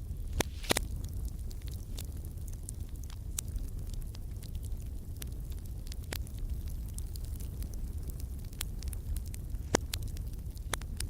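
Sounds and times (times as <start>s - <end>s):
fire crackles and pops: 0.0s - 11.0s
wood fire rumbling: 0.0s - 11.0s.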